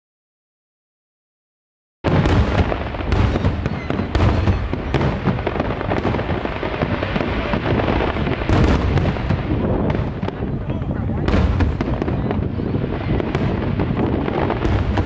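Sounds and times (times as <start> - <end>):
continuous firework crackle: 2.0 - 15.0
firework booms: 2.0 - 15.0.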